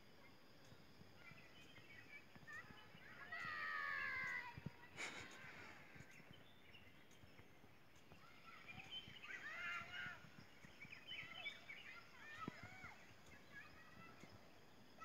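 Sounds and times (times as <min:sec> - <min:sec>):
background hiss: 0:00.0 - 0:15.0
faint birds chirping: 0:00.0 - 0:15.0.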